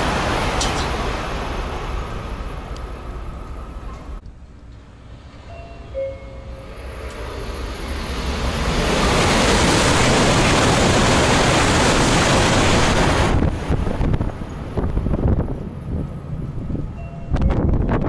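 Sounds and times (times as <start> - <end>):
high-speed train rushing past: 0.0 - 18.0.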